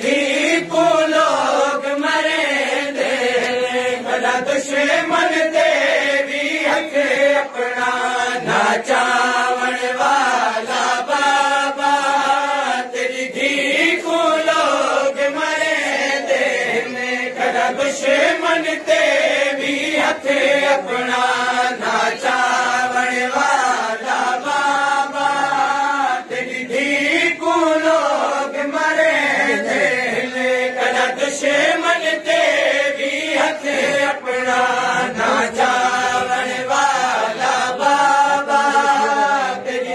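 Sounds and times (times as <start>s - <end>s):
male voices chanting a lament: 0.0s - 39.9s.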